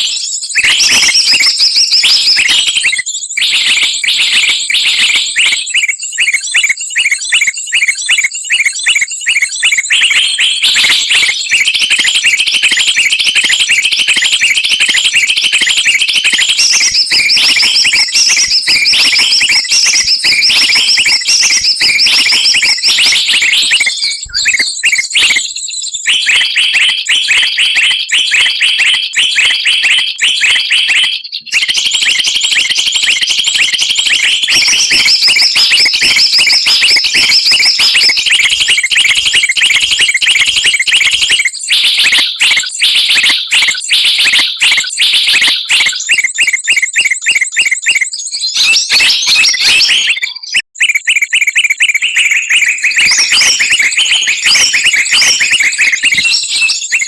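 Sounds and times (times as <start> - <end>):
small songbirds chirping: 0.0 - 42.3, 42.9 - 57.0.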